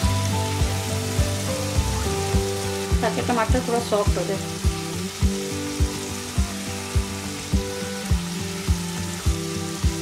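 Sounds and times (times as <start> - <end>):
background music with steady beat: 0.0 - 10.0
food sizzling in oil: 0.0 - 10.0.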